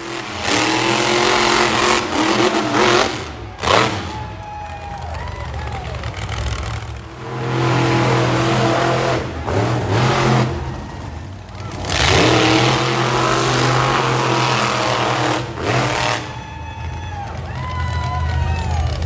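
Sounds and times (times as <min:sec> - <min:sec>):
monster truck engine at high revs: 0:00.0 - 0:19.0.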